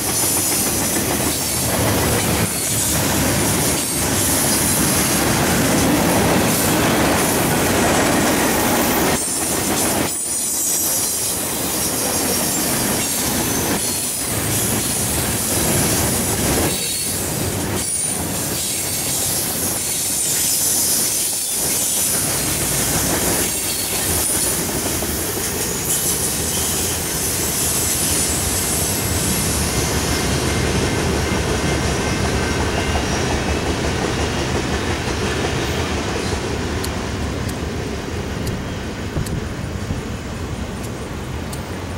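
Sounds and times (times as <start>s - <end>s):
freight train wheels squealing: 0.0s - 36.4s.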